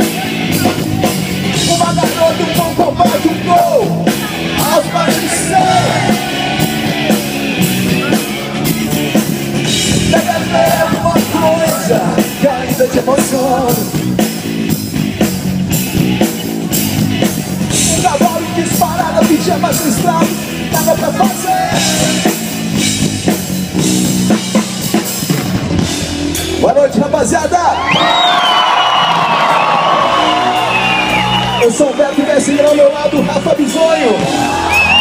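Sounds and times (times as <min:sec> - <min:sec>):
live rock band playing loud: 0:00.0 - 0:35.0.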